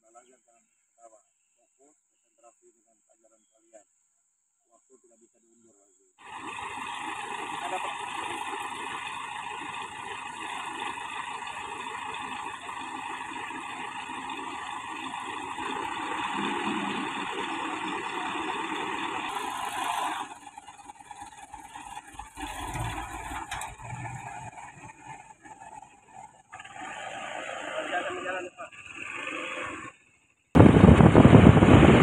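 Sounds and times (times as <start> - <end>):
diesel truck engine running: 6.2 - 32.0.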